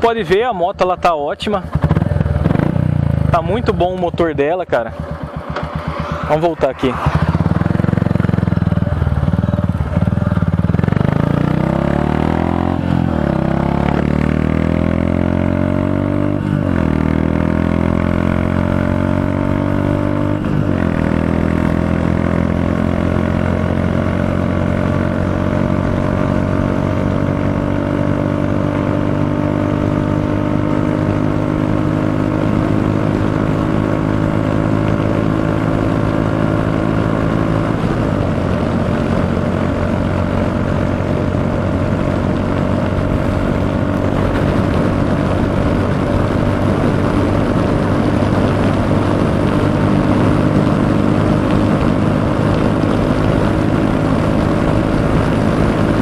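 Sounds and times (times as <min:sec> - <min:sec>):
motorcycle engine accelerating: 0:00.0 - 0:56.0
wind rush on microphone: 0:01.5 - 0:17.6, 0:18.6 - 0:56.0.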